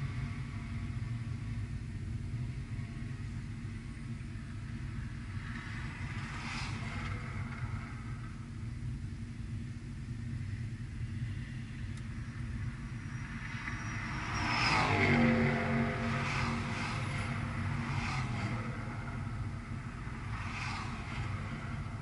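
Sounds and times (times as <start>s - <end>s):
road and tyre noise: 0.0s - 22.0s.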